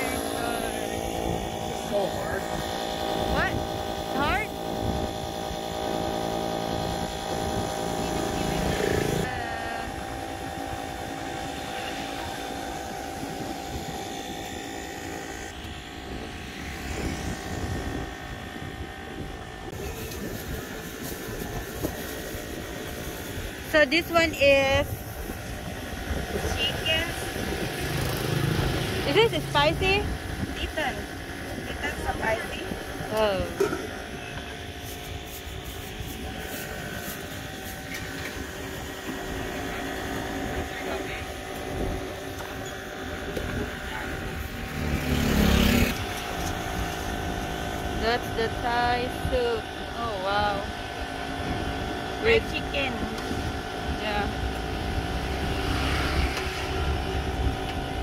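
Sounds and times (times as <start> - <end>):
street background rumble: 0.0 - 58.0.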